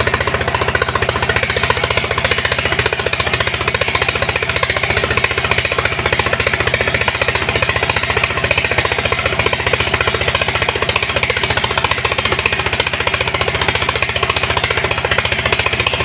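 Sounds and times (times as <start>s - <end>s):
pump engine chugging: 0.0s - 16.0s.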